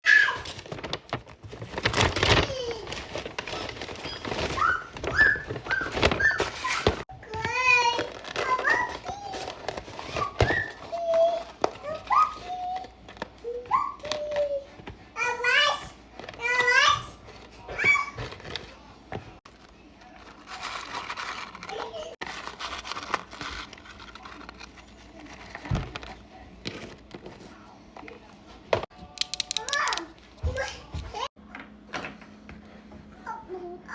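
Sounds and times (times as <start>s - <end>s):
rustling and crinkling: 0.1s - 15.1s, 16.0s - 28.9s.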